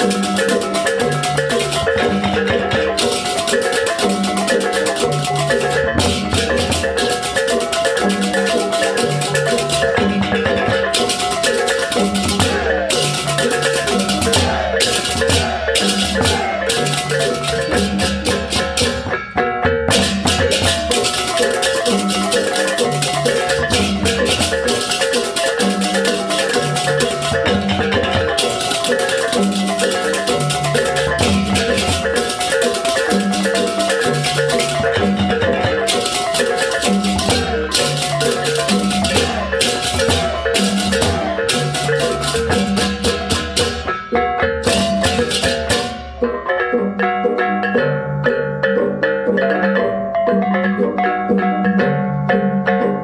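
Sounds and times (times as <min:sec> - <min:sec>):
drums: 0:00.0 - 0:53.0.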